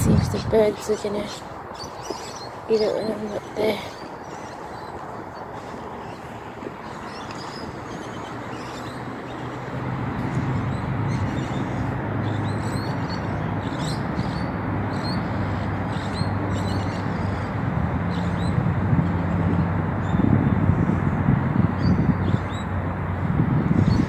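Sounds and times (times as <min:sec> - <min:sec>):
birds chirping: 0:00.0 - 0:20.8, 0:21.6 - 0:22.8
road traffic rumble: 0:00.0 - 0:24.0.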